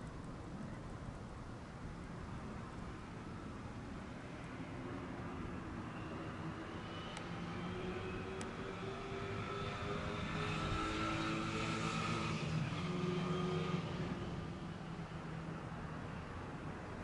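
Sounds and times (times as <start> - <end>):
passing engine hum: 3.1 - 17.0.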